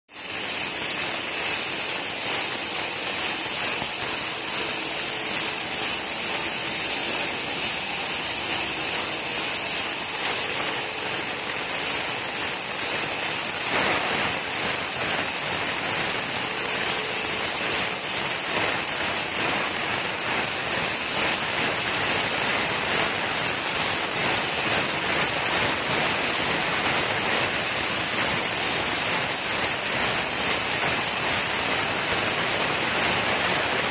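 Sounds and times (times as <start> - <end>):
bottle washing machine running: 0.1 - 33.9
hiss of water and air jets: 0.1 - 33.9.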